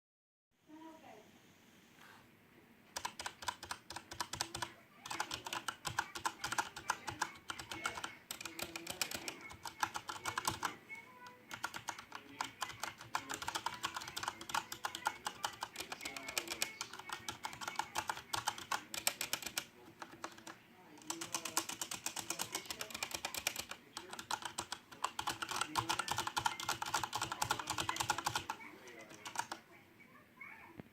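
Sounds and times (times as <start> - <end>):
mechanical keyboard typing: 2.9 - 29.6.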